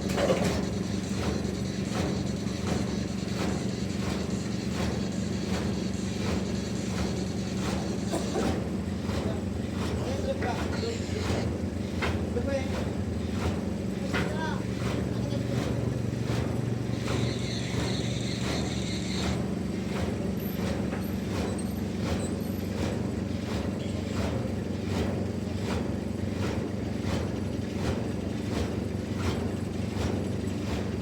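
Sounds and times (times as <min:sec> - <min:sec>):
sawmill machinery hum: 0:00.0 - 0:31.0.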